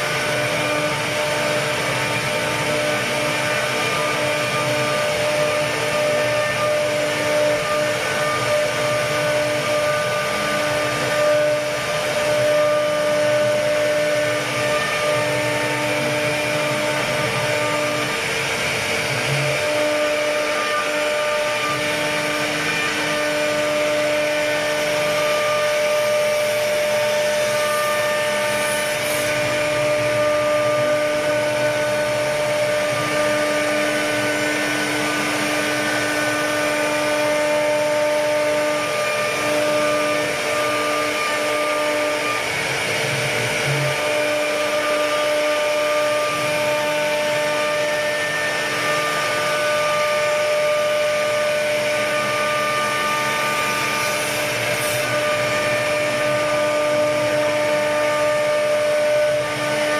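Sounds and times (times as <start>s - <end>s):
router spindle whine: 0.0s - 59.9s.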